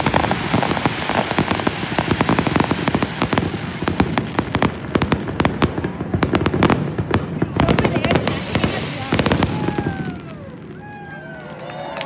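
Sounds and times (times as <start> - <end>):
fireworks bangs and pops: 0.0 - 12.0
fireworks crackle: 0.0 - 12.0.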